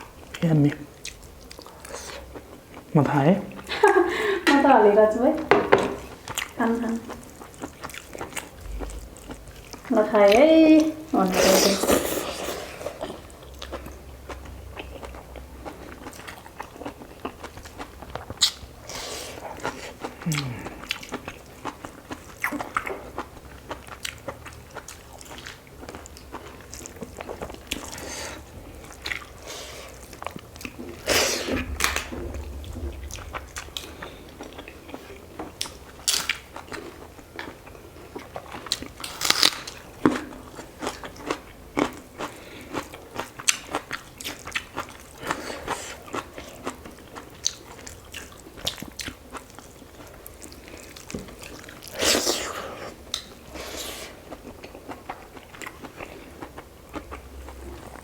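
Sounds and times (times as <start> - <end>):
person chewing food: 0.0 - 4.1, 5.7 - 58.0.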